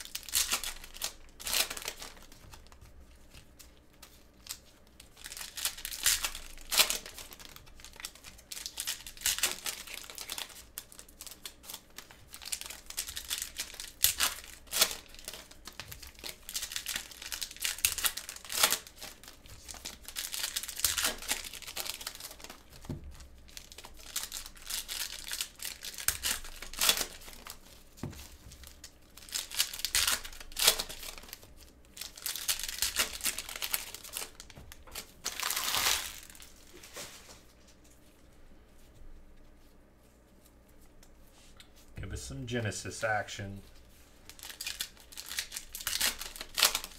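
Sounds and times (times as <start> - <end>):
foil wrappers crinkling and tearing: 0.0 - 38.0, 43.7 - 46.9.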